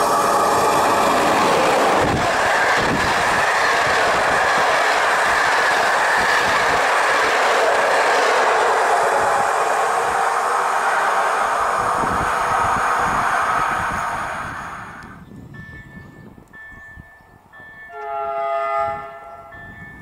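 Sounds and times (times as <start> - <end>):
train wheels rushing on rail: 0.0 - 20.0.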